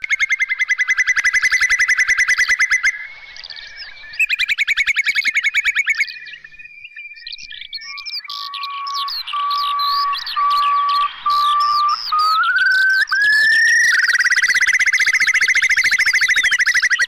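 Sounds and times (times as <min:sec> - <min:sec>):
bird rippling trills: 0:00.0 - 0:17.0
faint whistled bird notes: 0:00.0 - 0:17.0.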